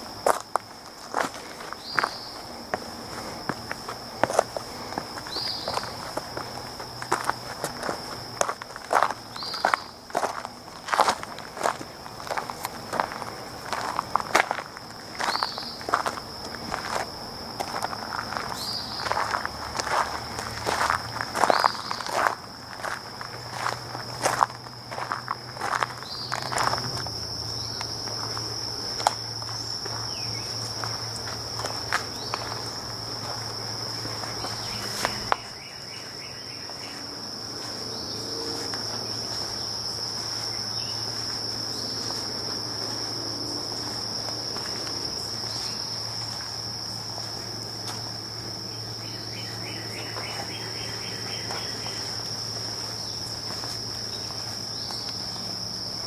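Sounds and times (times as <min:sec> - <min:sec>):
footsteps on path: 0:00.0 - 0:56.0
insects droning: 0:00.0 - 0:56.0.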